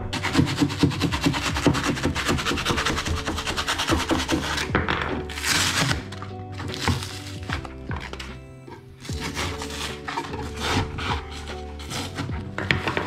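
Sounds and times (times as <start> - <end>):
soft background music: 0.0 - 13.0
knife scraping through foam: 0.1 - 4.7, 5.3 - 7.6, 9.0 - 13.0.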